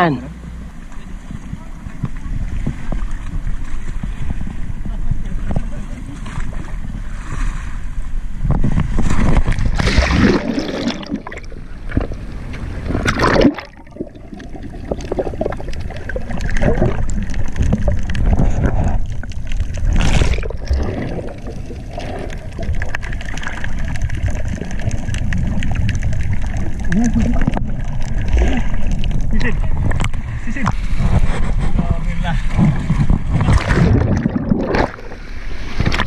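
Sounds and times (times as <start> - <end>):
seawater splashing and gurgling: 1.0 - 36.0.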